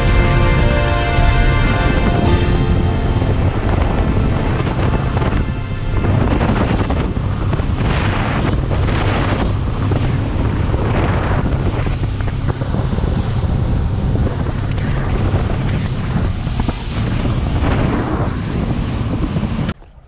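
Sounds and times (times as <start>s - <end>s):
boat engine droning: 0.0s - 20.0s
water rushing along hull: 0.0s - 20.0s
wind buffeting microphone: 0.0s - 20.0s.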